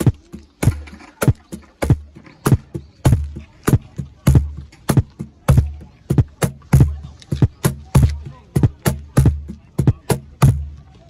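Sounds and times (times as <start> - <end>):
cajon played by hand: 0.0 - 11.0.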